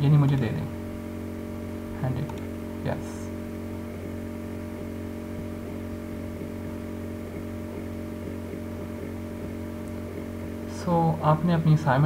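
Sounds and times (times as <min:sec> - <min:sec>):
electrical hum and buzz: 0:00.0 - 0:12.0.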